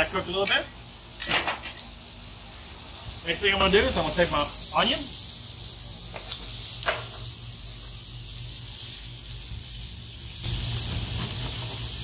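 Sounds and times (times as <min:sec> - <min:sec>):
ground beef sizzling on griddle: 0:00.0 - 0:12.0.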